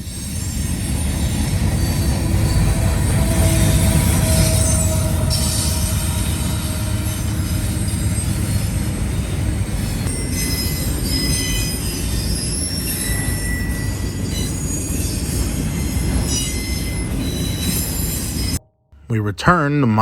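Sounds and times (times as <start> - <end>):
freight train cars rumbling: 0.0 - 18.6
high-pitched wheel squeal: 0.0 - 18.6.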